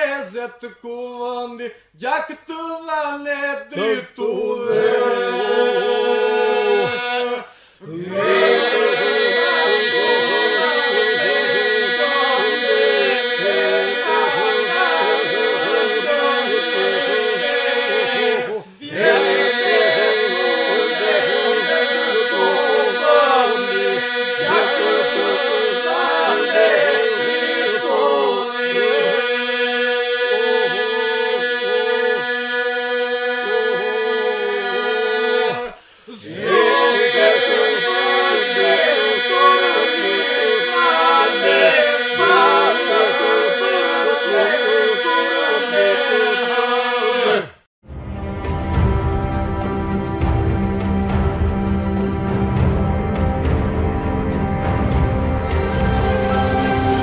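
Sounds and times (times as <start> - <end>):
male voices singing a cappella: 0.0 - 47.6.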